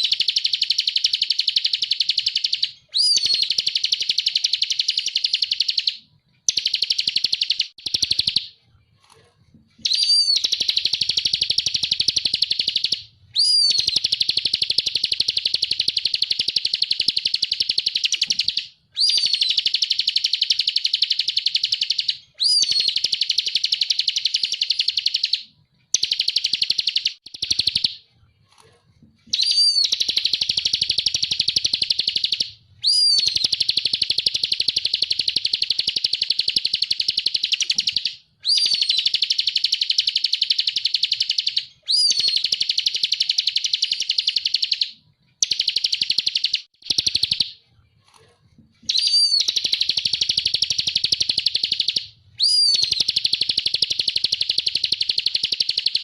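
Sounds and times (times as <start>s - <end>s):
bird singing high trills: 0.0s - 8.6s, 9.8s - 28.0s, 29.3s - 47.6s, 48.9s - 56.0s.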